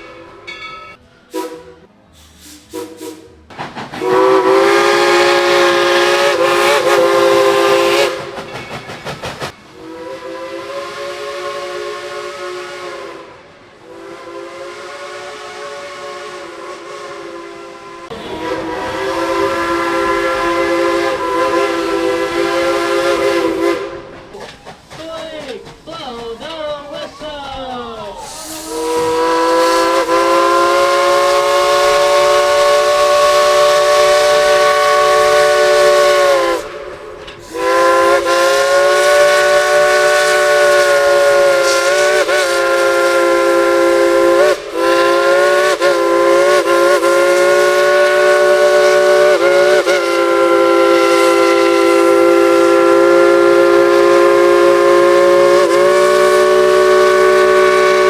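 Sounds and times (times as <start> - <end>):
steam locomotive chime whistle: 0.0 - 24.3, 26.5 - 58.0
steam hiss: 1.2 - 58.0.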